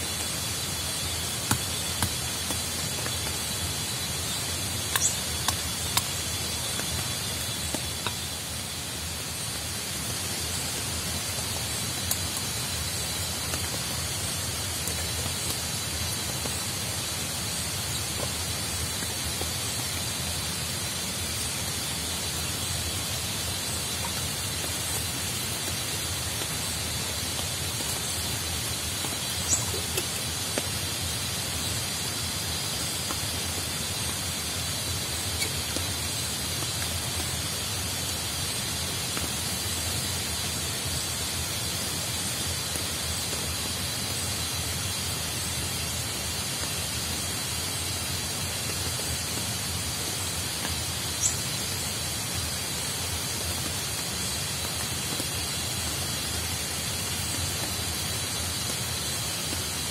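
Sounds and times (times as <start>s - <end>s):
rain falling in forest: 0.0s - 59.9s.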